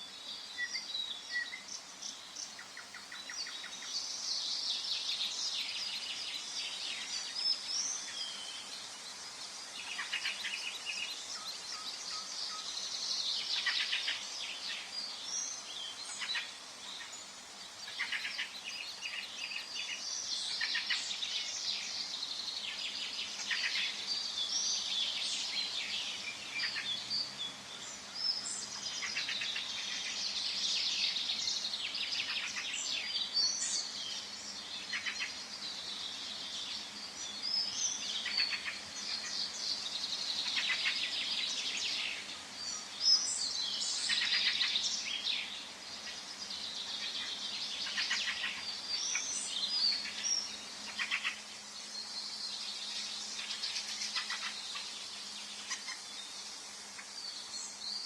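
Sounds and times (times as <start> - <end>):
faint background hiss: 0.0 - 58.0
songbirds singing and chirping: 0.0 - 58.0.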